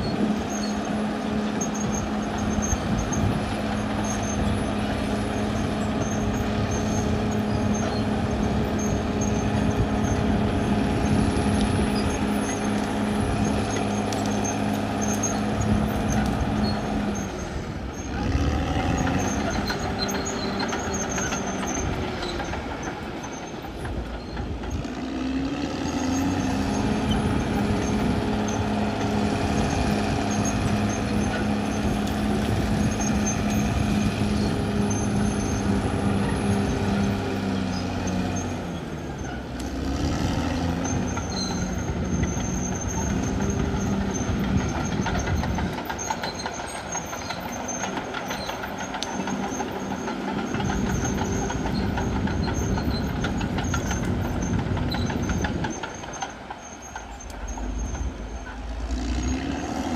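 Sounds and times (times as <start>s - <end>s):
bulldozer diesel engine: 0.0s - 59.9s
steel tracks clanking: 0.0s - 59.9s.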